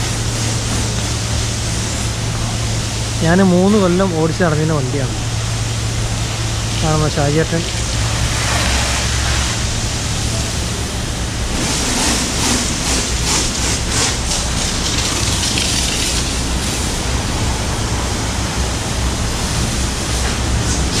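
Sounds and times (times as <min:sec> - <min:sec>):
steady low hum: 0:00.0 - 0:21.0
water jet spraying on metal: 0:00.0 - 0:21.0.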